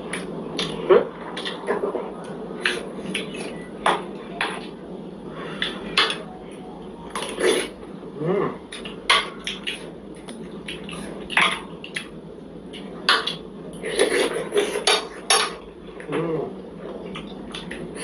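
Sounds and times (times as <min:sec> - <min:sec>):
soft eating sounds: 0:00.0 - 0:18.0.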